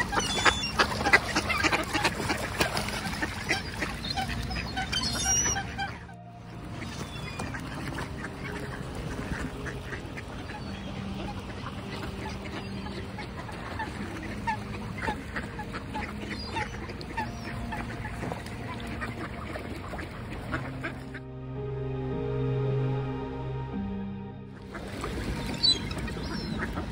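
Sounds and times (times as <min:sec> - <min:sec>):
ducks quacking: 0:00.0 - 0:21.3, 0:24.6 - 0:26.9.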